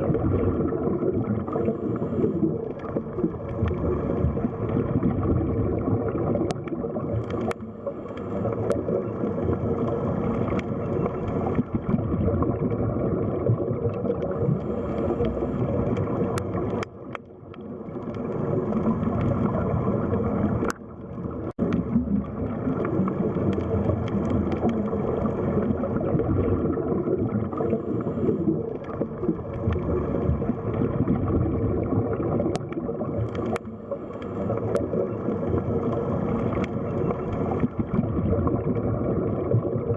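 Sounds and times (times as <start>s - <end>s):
faint underwater clicks: 0.0s - 39.9s
underwater rumble of moving water: 0.0s - 39.9s.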